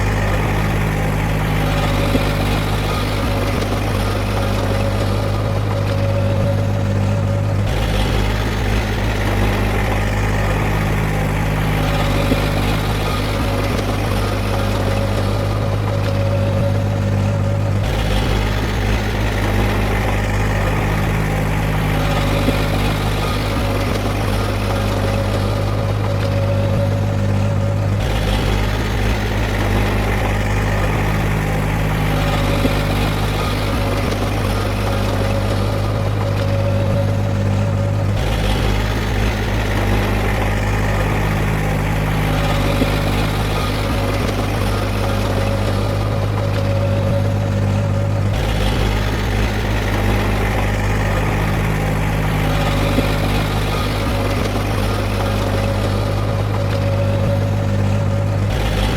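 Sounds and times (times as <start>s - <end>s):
diesel machinery humming: 0.0s - 58.9s.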